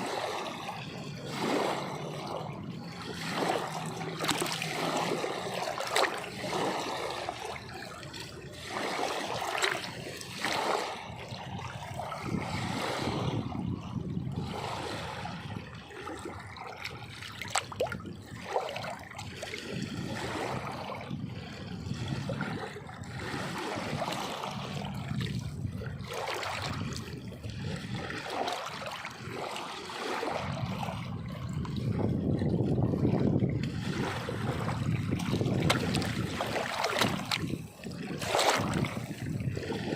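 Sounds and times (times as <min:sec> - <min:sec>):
water splashing and trickling: 0:00.0 - 0:39.9.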